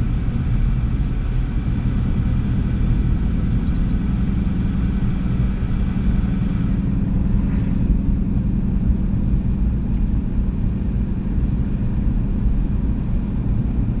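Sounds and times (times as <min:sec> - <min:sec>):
motor vehicle engine rumble: 0:00.0 - 0:14.0.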